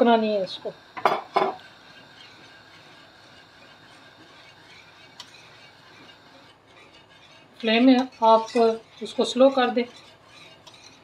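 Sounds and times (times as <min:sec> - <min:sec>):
whisk swishing in saucepan: 0:00.0 - 0:11.0.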